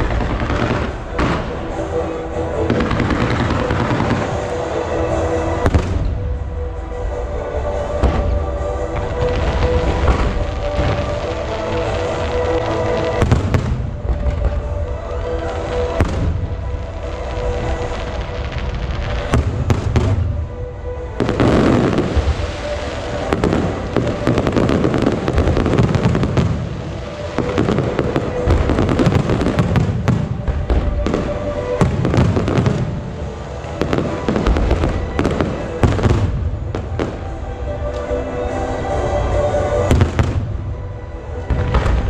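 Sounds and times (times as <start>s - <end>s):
firework crackling: 0.0s - 42.0s.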